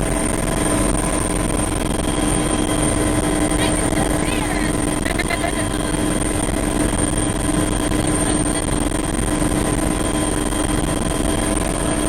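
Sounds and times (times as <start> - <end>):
helicopter rotor and engine: 0.0 - 12.0
high whine: 0.0 - 12.0.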